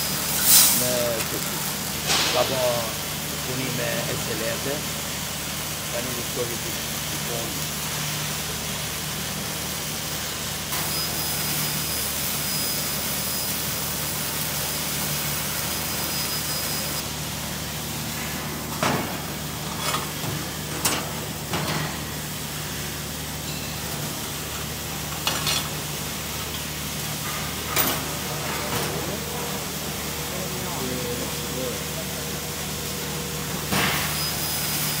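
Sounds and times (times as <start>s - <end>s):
laser cutter hissing: 0.0s - 25.1s, 25.7s - 35.0s
low machine hum: 0.0s - 35.0s.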